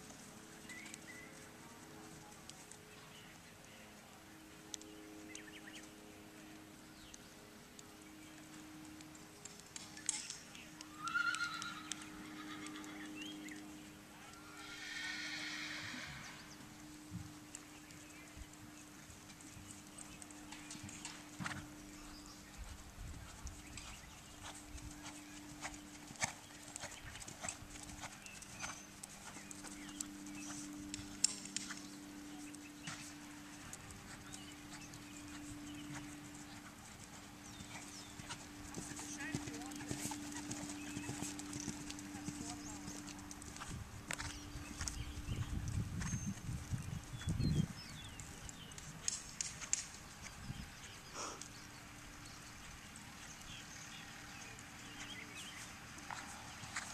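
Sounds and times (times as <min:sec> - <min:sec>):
steady low hum: 0:00.0 - 0:11.0, 0:11.8 - 0:56.9
horse hoofbeats trotting on sand: 0:00.0 - 0:14.5, 0:16.0 - 0:56.9.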